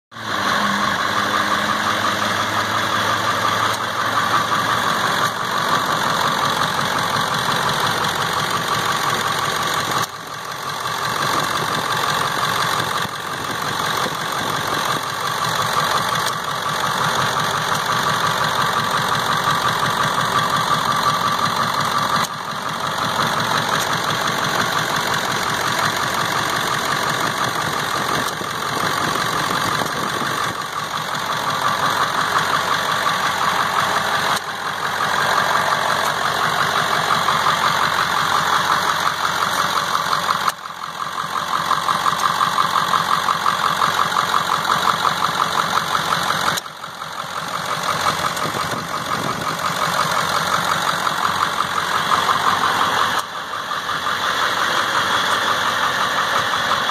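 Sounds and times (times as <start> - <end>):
truck engine idling: 0.2 - 56.9.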